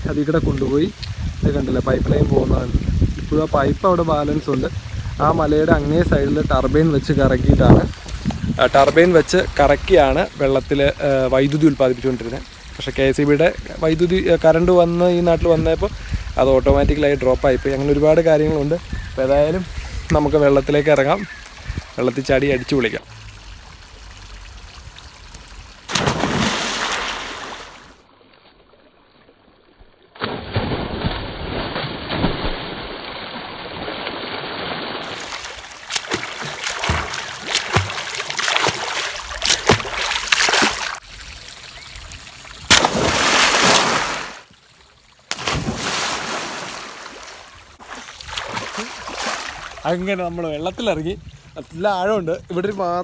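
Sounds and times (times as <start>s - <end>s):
water splashing: 0.4s - 51.8s.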